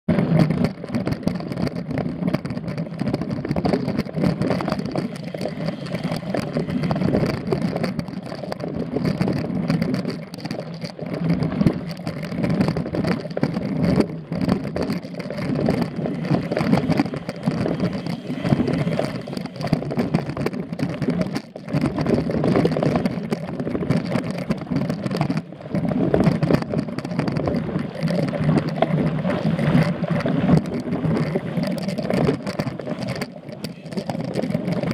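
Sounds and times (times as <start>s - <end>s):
bike knocks and rattles: 0.1s - 34.9s
bike rumbling over dirt: 0.1s - 34.9s.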